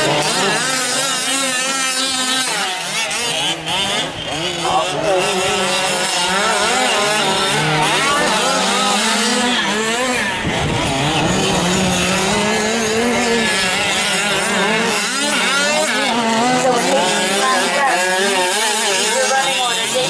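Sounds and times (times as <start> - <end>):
small two-stroke engines revving: 0.0 - 20.0.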